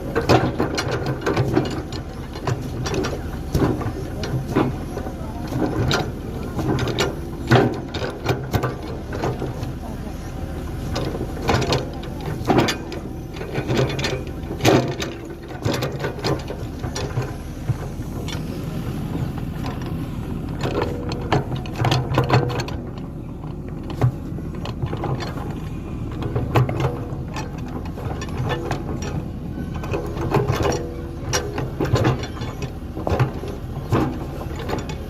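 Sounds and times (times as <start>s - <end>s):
excavator clanks and knocks: 0.0s - 35.0s
excavator engine running: 0.0s - 35.0s.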